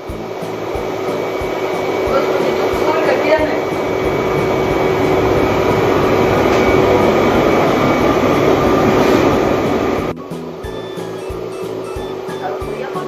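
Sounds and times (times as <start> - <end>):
whirlpool bath pump and jets: 0.0 - 13.0.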